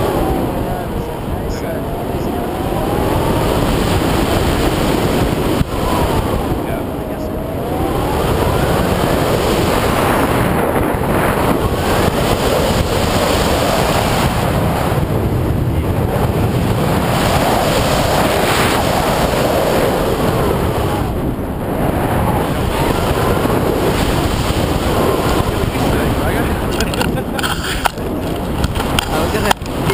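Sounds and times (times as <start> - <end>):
wind noise on microphone: 0.0 - 29.9.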